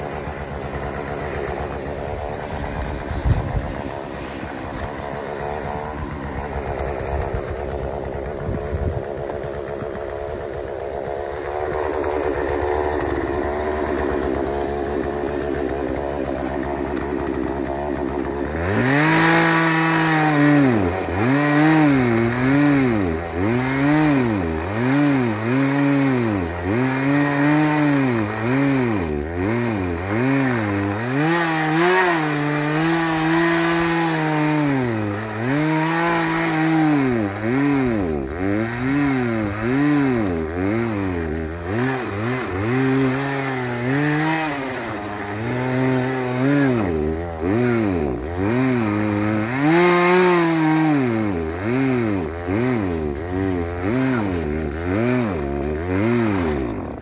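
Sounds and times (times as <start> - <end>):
chainsaw engine: 0.0 - 57.0.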